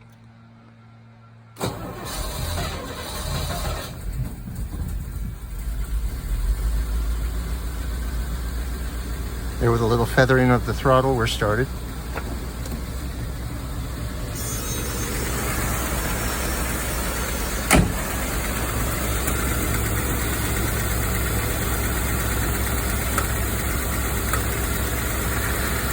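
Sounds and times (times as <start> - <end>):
car engine idling: 1.6 - 25.9.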